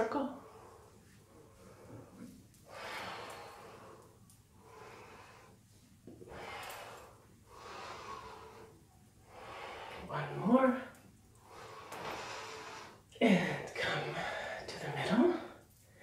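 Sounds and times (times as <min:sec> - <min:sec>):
woman breathing deeply: 0:00.4 - 0:14.7.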